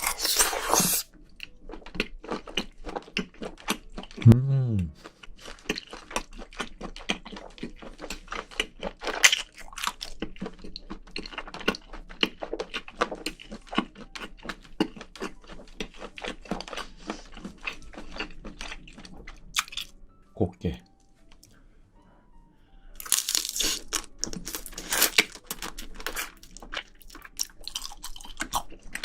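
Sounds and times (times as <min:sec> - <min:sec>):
chewing with wet crunches: 0:00.0 - 0:04.3, 0:05.0 - 0:20.0, 0:23.0 - 0:29.0.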